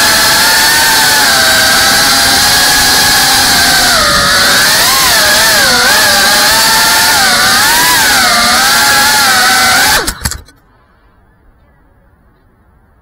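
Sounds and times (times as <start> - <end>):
drone motors whining: 0.0 - 10.5.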